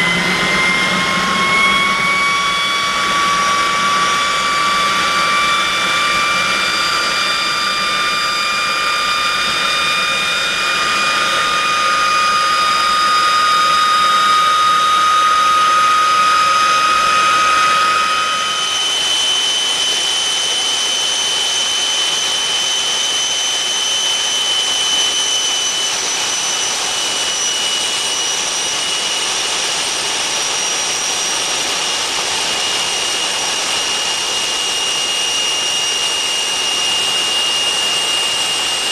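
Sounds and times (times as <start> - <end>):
jet engine rushing and whining: 0.0 - 38.9.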